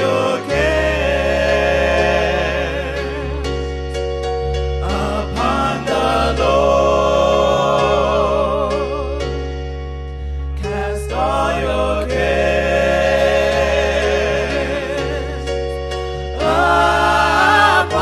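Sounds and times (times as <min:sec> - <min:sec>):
gospel choir singing: 0:00.0 - 0:18.0
steady bass: 0:00.0 - 0:18.0
sustained keyboard chords: 0:00.0 - 0:18.0.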